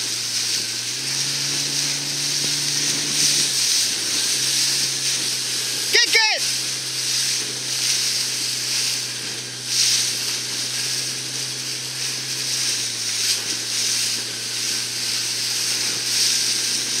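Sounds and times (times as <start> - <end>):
motorboat engine hum: 0.0 - 17.0
wind and water spray rushing: 0.0 - 17.0.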